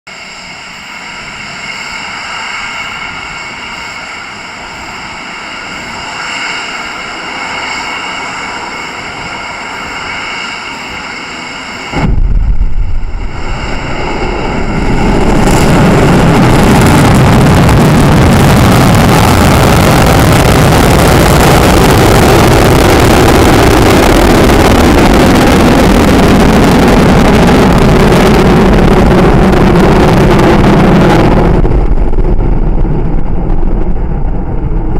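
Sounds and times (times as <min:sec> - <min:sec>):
high whining tones: 0:00.1 - 0:34.9
rocket engines roaring: 0:00.1 - 0:34.9.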